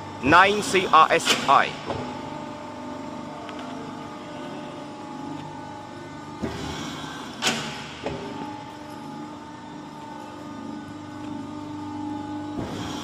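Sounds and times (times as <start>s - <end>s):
machine hum and whine: 0.0s - 13.0s.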